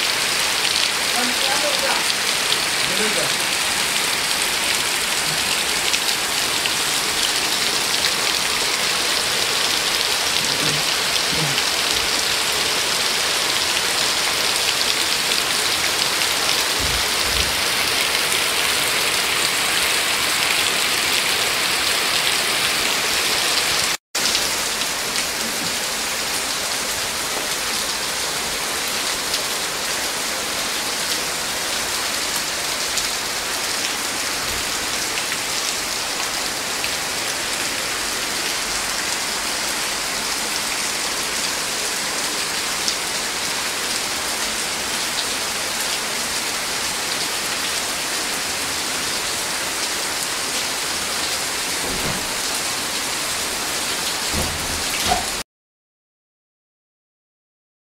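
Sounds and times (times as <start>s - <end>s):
rain on muddy ground: 0.0s - 55.4s.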